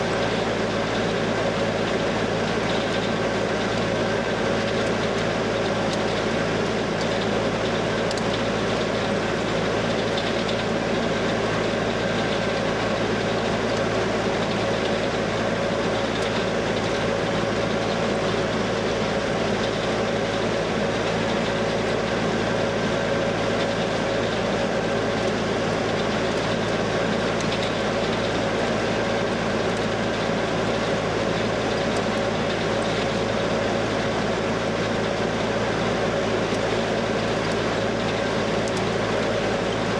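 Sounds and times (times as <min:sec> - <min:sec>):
constant machine whine: 0:00.0 - 0:39.9
diesel farm machinery running: 0:00.0 - 0:39.9.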